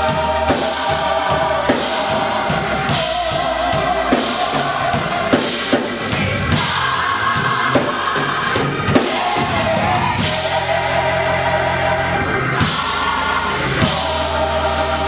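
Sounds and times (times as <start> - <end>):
choir singing with band: 0.0 - 15.0
drum kit beating: 0.0 - 15.0.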